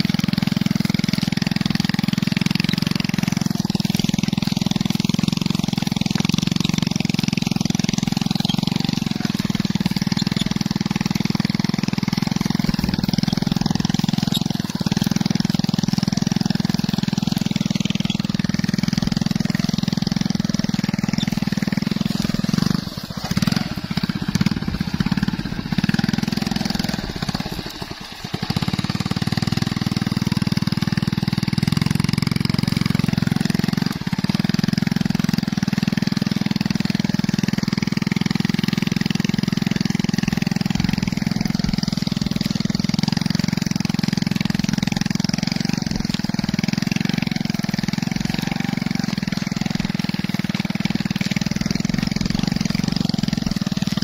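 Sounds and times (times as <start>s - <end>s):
small motorcycle engine under load: 0.0s - 54.0s.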